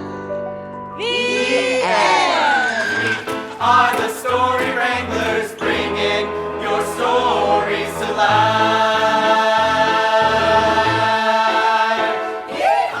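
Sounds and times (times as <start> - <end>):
singing voices with accompaniment: 1.0 - 13.0.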